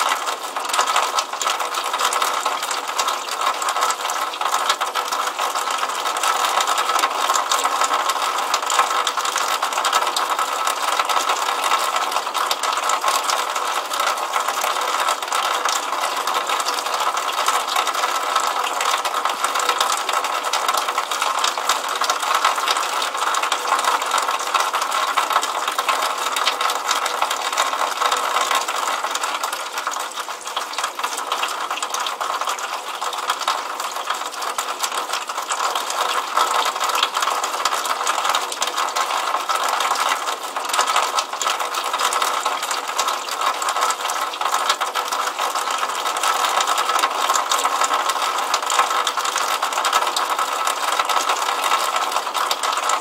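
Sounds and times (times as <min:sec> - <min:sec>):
water splashing from downspout: 0:00.0 - 0:53.0.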